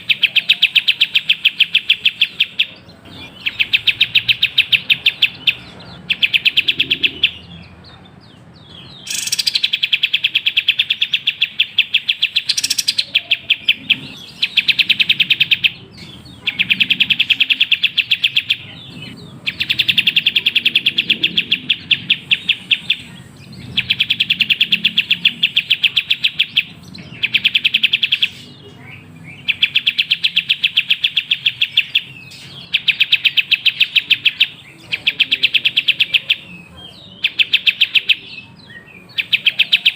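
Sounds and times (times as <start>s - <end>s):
bird chirping: 0.0s - 39.9s
high sweeping bird notes: 0.0s - 39.9s.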